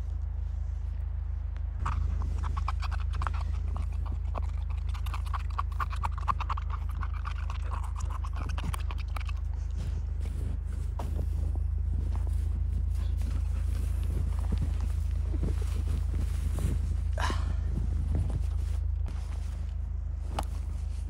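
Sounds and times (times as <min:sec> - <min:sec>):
steady low rumble: 0:00.0 - 0:21.0
crunching in deep snow: 0:01.8 - 0:21.0.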